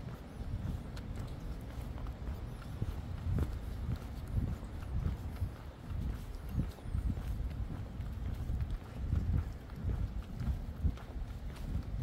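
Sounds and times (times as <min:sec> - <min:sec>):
footsteps on wet pavement: 0:00.0 - 0:12.0.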